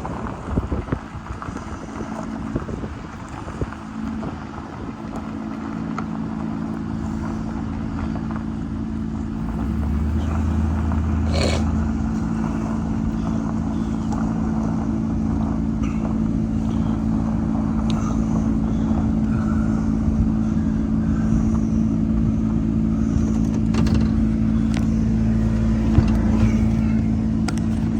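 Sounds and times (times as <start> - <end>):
vehicle engine humming: 0.0 - 27.9.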